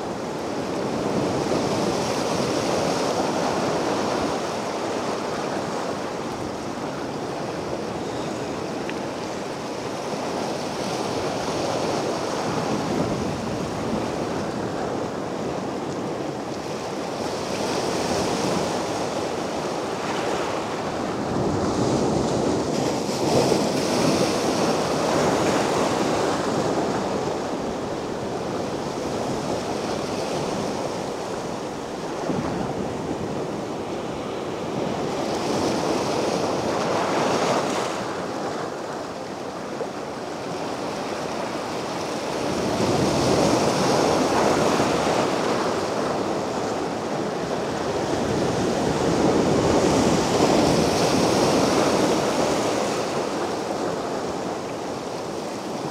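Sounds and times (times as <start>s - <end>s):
sea waves washing onto beach: 0.0s - 55.9s
wind on microphone: 0.0s - 55.9s.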